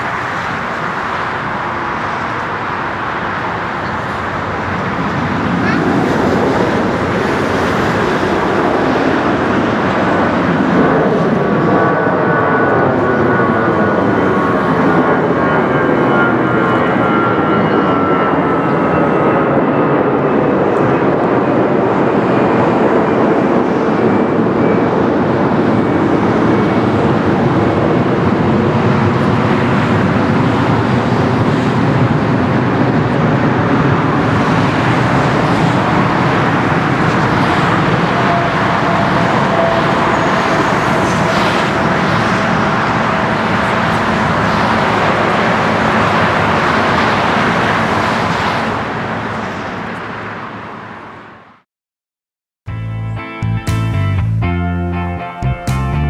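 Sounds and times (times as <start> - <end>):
jet airliner passing: 0.0 - 51.6.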